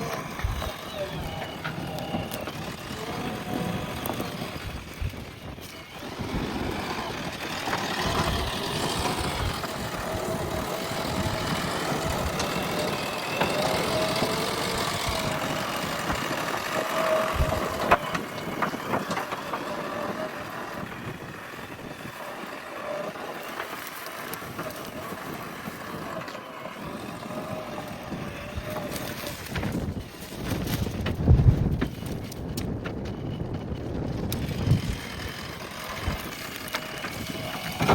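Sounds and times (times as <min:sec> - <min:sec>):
diesel engine under load: 0:00.0 - 0:37.9.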